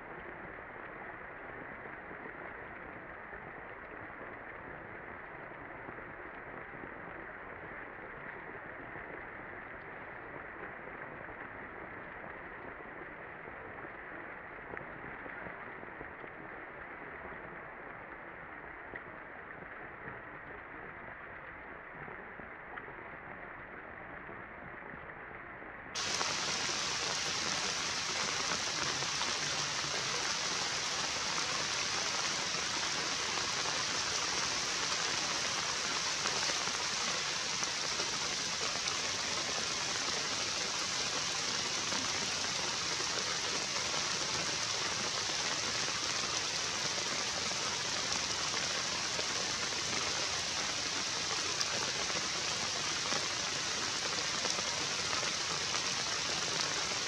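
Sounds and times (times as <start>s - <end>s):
steady rain hiss: 0.0s - 22.6s, 26.0s - 57.0s.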